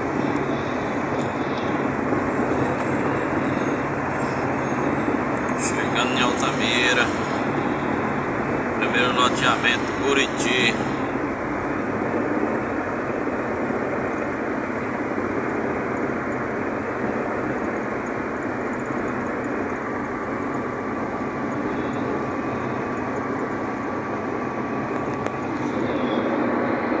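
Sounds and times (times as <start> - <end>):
car cabin road noise: 0.0 - 27.0
faint high whine: 0.0 - 27.0.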